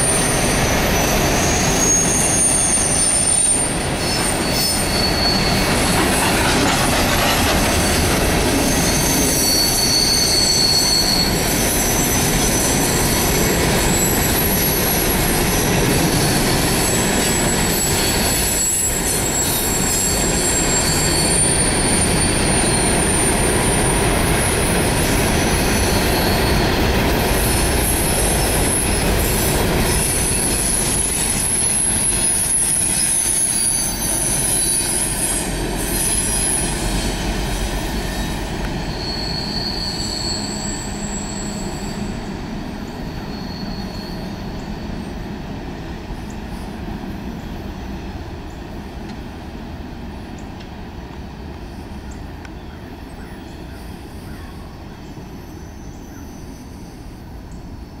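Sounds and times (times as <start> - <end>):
train wheels squealing: 0.0 - 49.2, 50.2 - 58.0
railroad cars rolling: 0.0 - 58.0.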